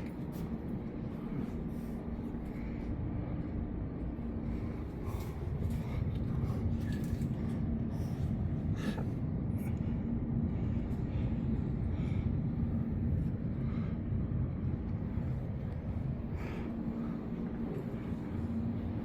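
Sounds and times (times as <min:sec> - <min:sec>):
constant low hum: 0:00.0 - 0:19.0
low background rumble: 0:00.0 - 0:19.0.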